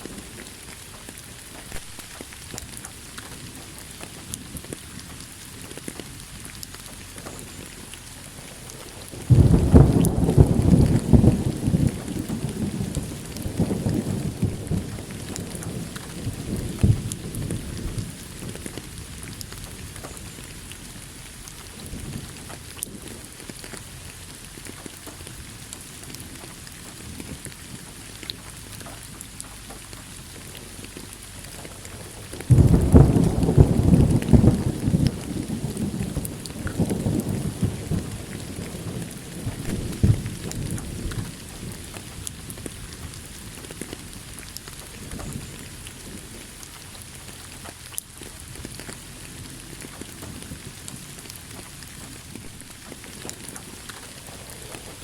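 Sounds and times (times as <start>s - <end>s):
thunder rumbling: 0.0s - 28.0s, 29.1s - 47.0s, 48.5s - 55.0s
steady rainfall: 0.0s - 55.0s.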